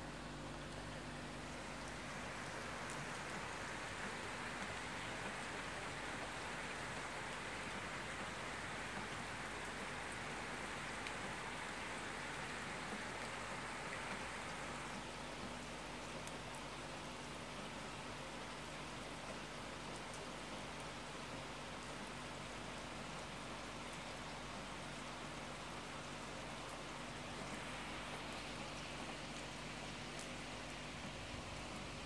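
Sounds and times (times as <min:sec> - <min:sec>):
rain falling steadily: 0:00.0 - 0:32.0.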